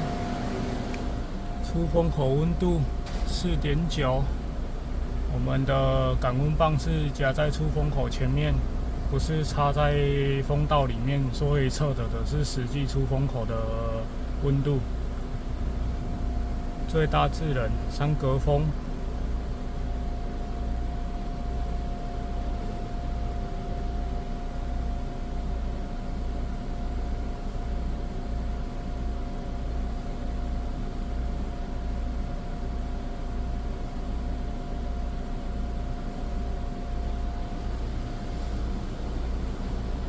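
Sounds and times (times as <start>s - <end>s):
air conditioning blower rushing: 0.0s - 40.0s
faint steady whine: 0.0s - 40.0s.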